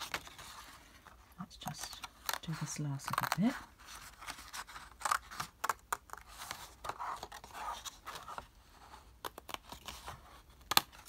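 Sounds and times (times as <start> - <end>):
card rustling: 0.0 - 11.0.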